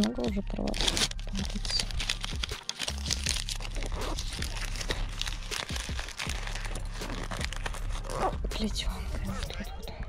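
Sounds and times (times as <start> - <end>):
paper wrapper crinkling: 0.0 - 9.7.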